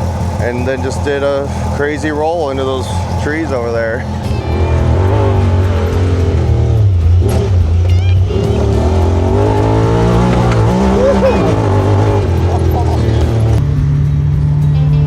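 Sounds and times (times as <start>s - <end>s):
utv engine accelerating: 0.0s - 15.0s.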